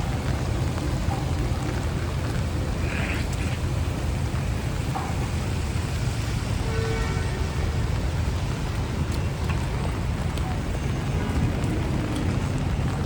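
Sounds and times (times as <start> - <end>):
hiss of rain and wet tyres: 0.0 - 13.0
traffic rumble: 0.0 - 13.0.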